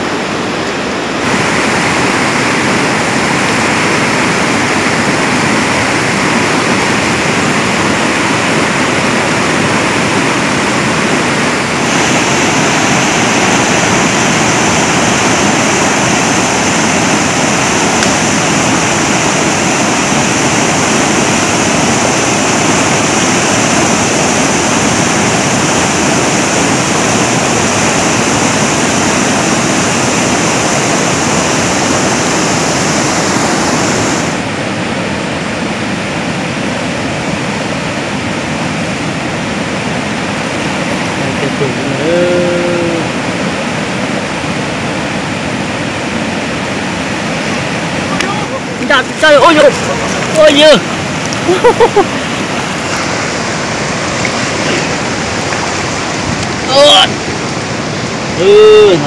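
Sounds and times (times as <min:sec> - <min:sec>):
high steady hiss: 0:00.0 - 0:59.0
rushing water: 0:00.0 - 0:59.0.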